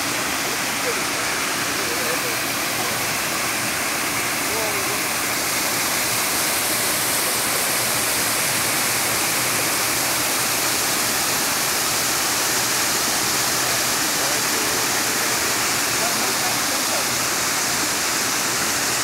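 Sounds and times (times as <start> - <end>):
water rushing over spillway: 0.0 - 19.0.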